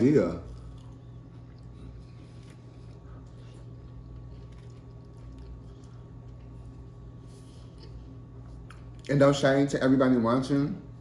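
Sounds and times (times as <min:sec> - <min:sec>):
chewing and eating sounds: 0:00.0 - 0:09.2
low hum: 0:00.0 - 0:11.0.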